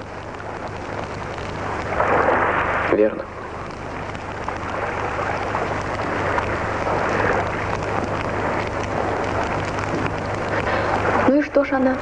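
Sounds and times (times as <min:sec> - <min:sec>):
campfire crackling and hissing: 0:00.0 - 0:12.0.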